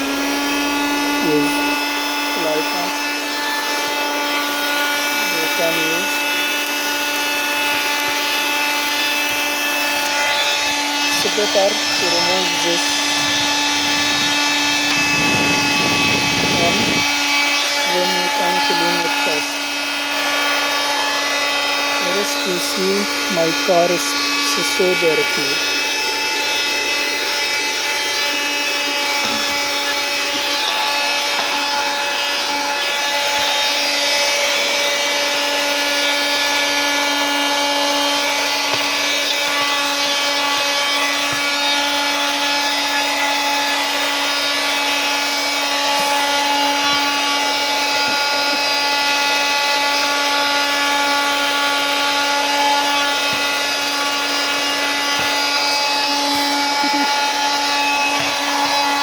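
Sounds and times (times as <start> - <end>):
car vacuum cleaner running: 0.0 - 59.0.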